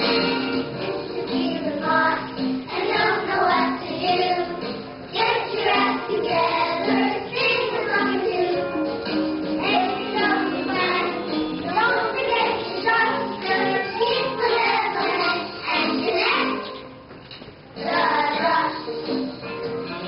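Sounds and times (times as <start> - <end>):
children singing: 0.0 - 8.8, 9.6 - 16.9, 17.8 - 18.9
accompaniment music: 0.0 - 17.0, 17.8 - 20.0.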